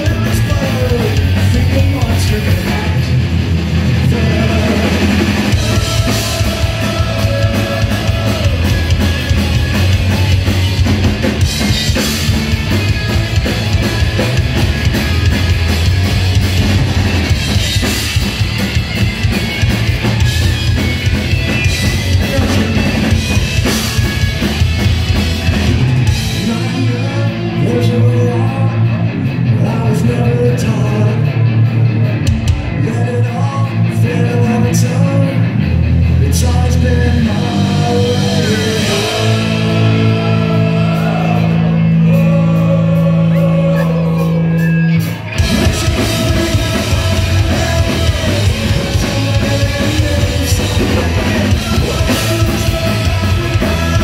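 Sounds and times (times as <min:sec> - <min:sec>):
live punk rock band: 0:00.0 - 0:54.0
pounding drum kit: 0:00.0 - 0:54.0.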